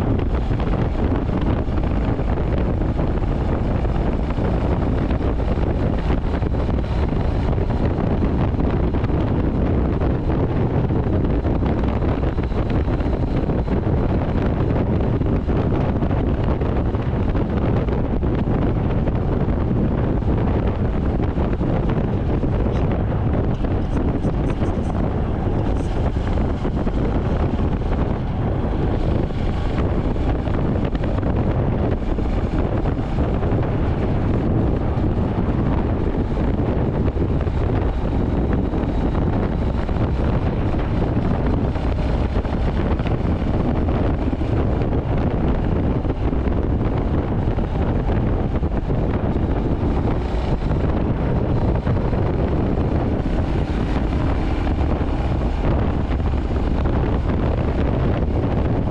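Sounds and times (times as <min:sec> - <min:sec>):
motorcycle engine running: 0:00.0 - 0:58.9
wind noise on microphone: 0:00.0 - 0:58.9.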